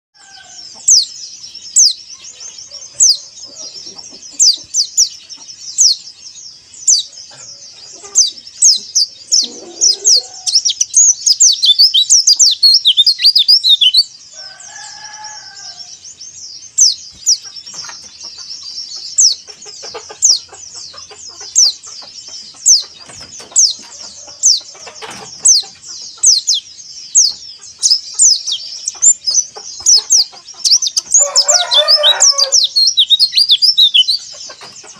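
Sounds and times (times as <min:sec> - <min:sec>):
bird chirping: 0:00.2 - 0:34.9
bird twittering: 0:00.2 - 0:34.9.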